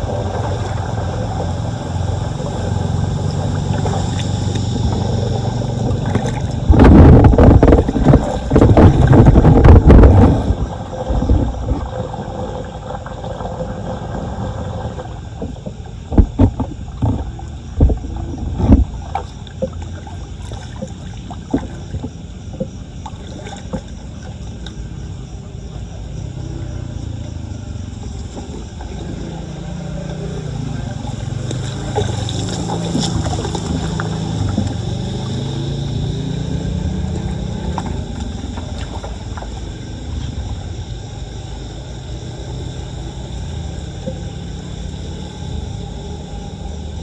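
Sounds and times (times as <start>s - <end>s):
low drone: 0.0s - 23.4s, 24.0s - 47.0s
floodwater splashing and sloshing: 0.0s - 26.9s, 27.7s - 41.7s.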